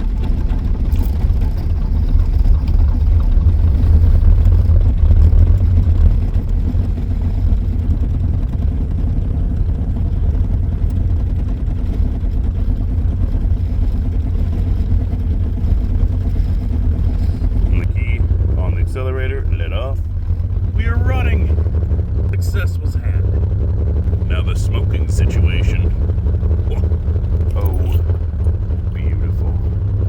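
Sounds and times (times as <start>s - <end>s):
diesel engine low rumble: 0.0s - 30.0s.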